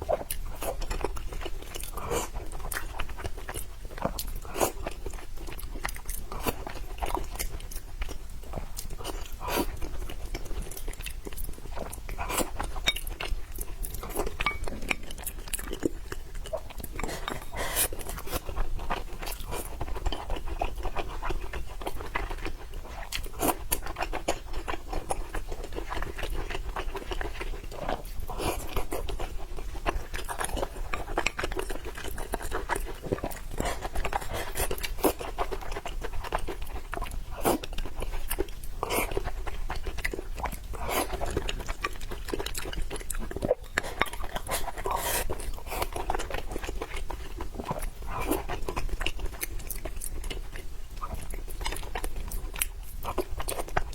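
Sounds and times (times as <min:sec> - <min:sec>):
biting clicks and mouth sounds: 0:00.0 - 0:53.9
person chewing and crunching food: 0:00.0 - 0:53.9.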